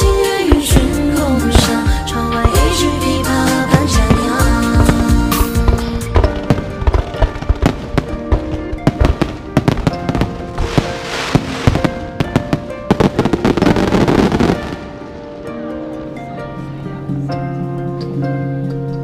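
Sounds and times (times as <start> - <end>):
fireworks banging: 0.0 - 15.4
fireworks crackling: 0.0 - 15.6
music: 0.0 - 19.0.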